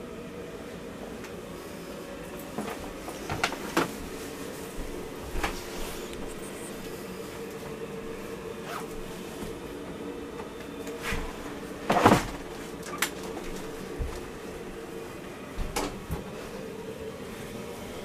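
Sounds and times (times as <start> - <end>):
steady low engine hum: 0.0 - 18.0.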